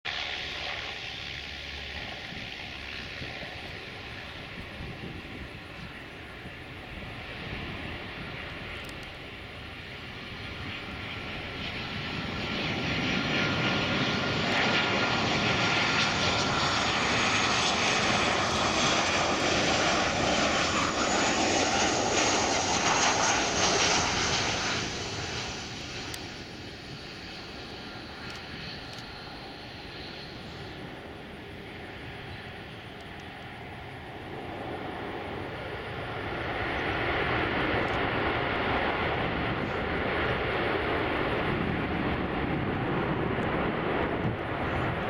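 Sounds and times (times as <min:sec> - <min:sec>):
jet engines roaring with whine: 0:00.1 - 0:45.0.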